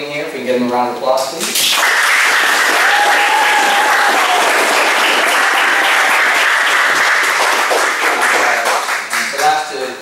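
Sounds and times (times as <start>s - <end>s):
audience applauding: 1.6s - 9.6s.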